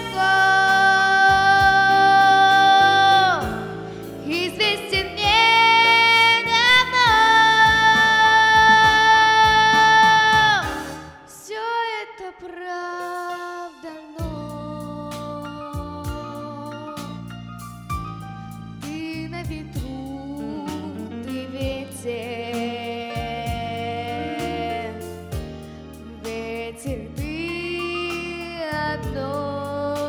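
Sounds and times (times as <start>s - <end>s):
instrumental accompaniment: 0.0s - 11.5s, 12.9s - 30.0s.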